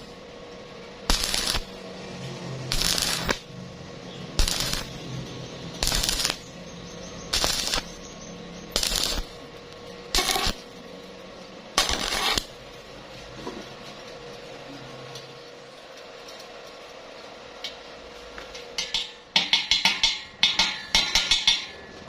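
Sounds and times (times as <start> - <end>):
welding arc crackling: 0.0 - 20.2
steady hum: 0.0 - 22.0.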